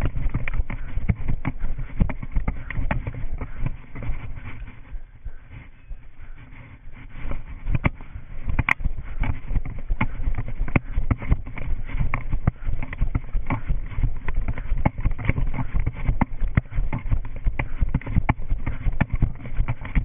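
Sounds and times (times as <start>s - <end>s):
low wind rumble: 0.0s - 20.0s
running footsteps on concrete: 0.0s - 20.0s.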